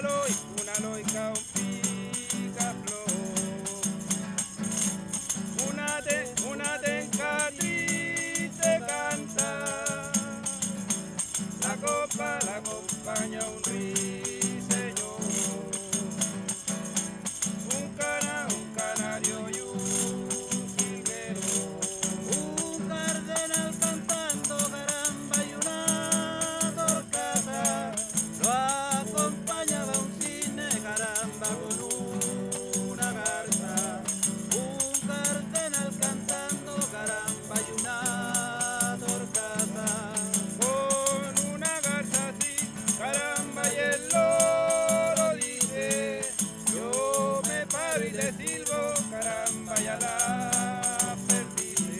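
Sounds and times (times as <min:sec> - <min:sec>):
strummed nylon-string guitar: 0:00.0 - 0:51.9
person singing: 0:05.6 - 0:10.9, 0:11.6 - 0:16.6, 0:17.6 - 0:51.9.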